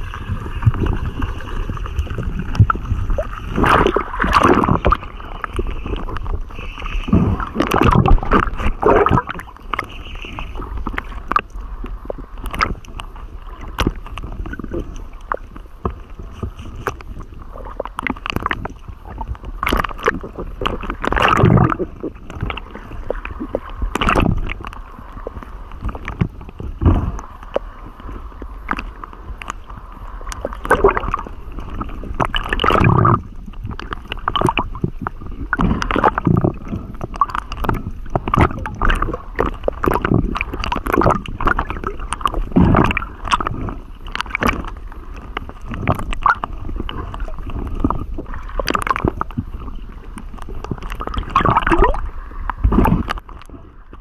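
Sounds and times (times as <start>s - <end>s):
water gurgling and sloshing: 0.0s - 54.0s.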